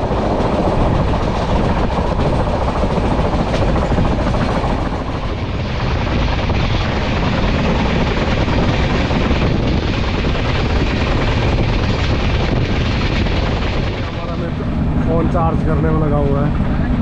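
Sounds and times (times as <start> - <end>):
rushing air noise: 0.0 - 17.0
train wheels rumbling on track: 0.0 - 17.0.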